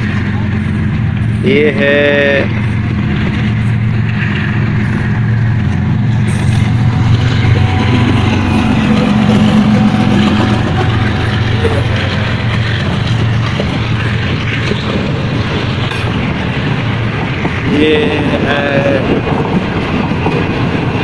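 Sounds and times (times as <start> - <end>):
diesel locomotive passing: 0.0 - 21.0.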